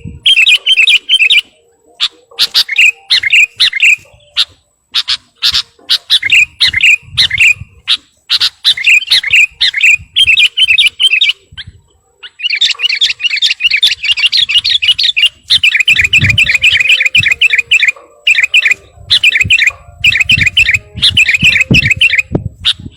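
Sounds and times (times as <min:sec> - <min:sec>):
bird rapid chattering: 0:00.0 - 0:22.9
bulbul chirping: 0:00.0 - 0:22.9.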